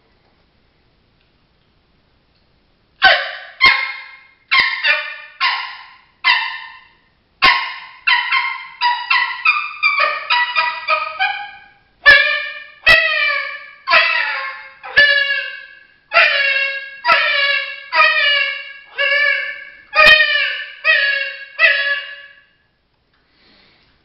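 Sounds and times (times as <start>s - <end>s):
coyote call yips and barks: 3.0s - 22.5s.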